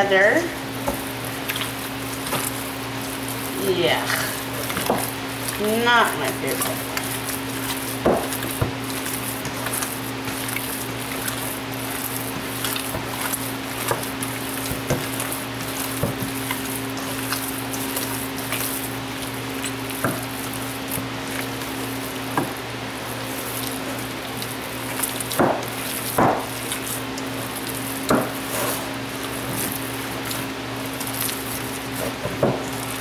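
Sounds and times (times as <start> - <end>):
steady low hum: 0.0 - 33.0
wet squelching of meat kneading: 0.0 - 33.0.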